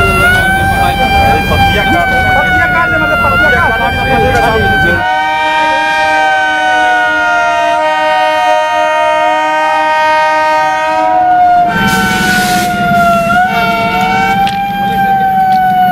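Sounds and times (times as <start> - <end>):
railway horn chord: 0.0 - 15.8.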